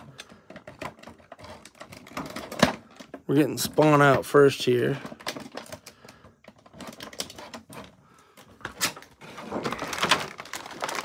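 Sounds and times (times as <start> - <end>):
plastic packaging crackling: 0.0 - 4.2, 5.0 - 11.0.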